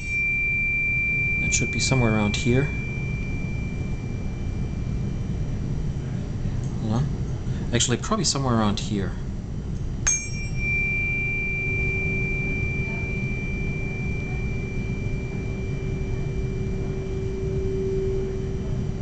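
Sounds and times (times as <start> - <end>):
tuning fork struck: 0.0 - 6.7, 10.0 - 19.0
pure hum in resonance tube: 0.0 - 19.0.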